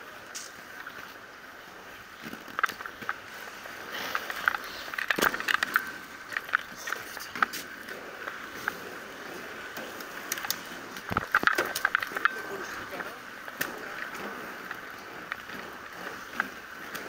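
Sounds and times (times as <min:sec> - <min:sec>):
wheels rattling on pavement: 0:00.0 - 0:17.0.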